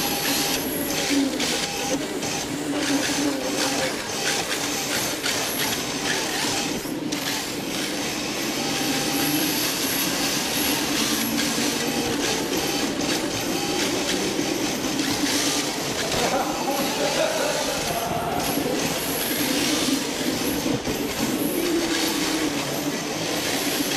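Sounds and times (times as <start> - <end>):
electric motor and gear whine: 0.0 - 23.9.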